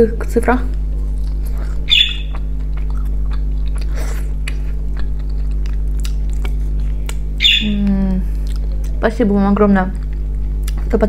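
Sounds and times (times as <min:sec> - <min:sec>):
steady low hum: 0:00.0 - 0:11.0
chewing crispy fried fish: 0:00.7 - 0:09.0, 0:09.9 - 0:10.9.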